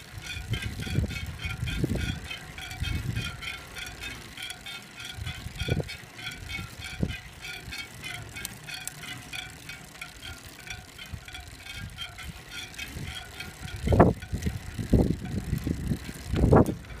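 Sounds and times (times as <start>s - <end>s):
wind buffeting microphone: 0.0s - 8.6s, 10.1s - 17.0s
metallic spoke pings: 0.1s - 17.0s.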